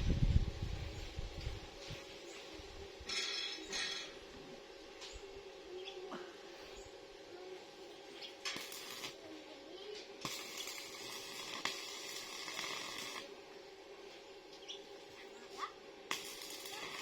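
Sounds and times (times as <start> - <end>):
welding arc crackling and hissing: 0.0 - 17.0.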